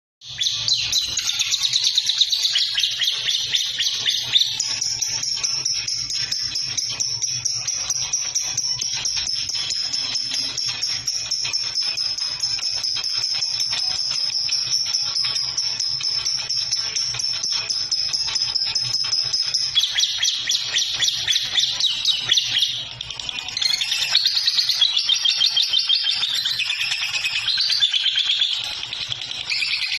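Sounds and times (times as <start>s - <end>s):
lovebird chirping: 0.2s - 30.0s.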